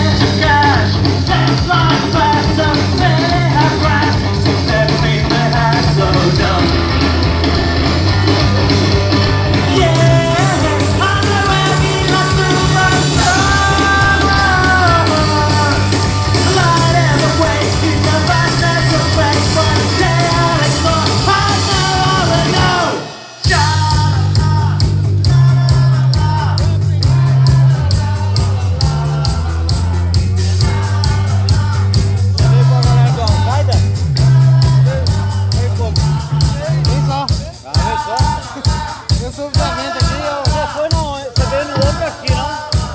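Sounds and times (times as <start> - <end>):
person singing: 0.0 - 42.9
rock band playing live: 0.0 - 42.9.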